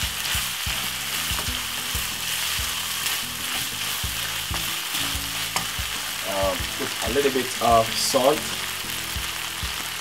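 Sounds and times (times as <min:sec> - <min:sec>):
meat sauce sizzling in a pan: 0:00.0 - 0:10.0.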